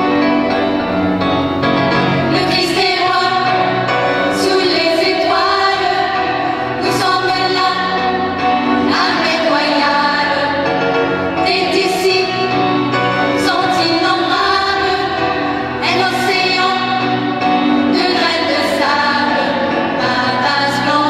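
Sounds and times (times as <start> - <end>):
church choir singing: 0.0 - 21.0.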